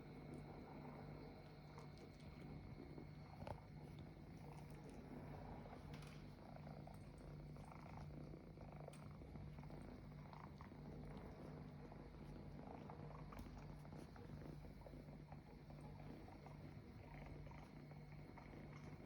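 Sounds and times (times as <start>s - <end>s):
kitten purring: 1.7s - 19.0s.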